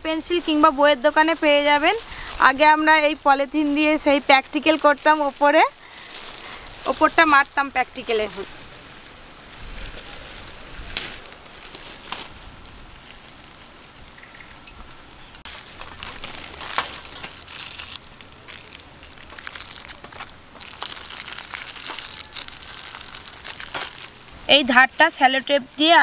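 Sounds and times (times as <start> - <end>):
plastic sheet crinkling: 0.0 - 26.0.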